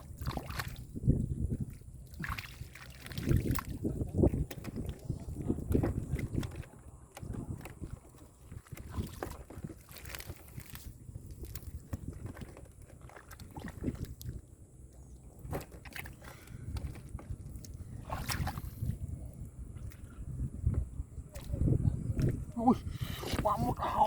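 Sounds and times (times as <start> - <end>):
muddy water sloshing: 0.0 - 24.0.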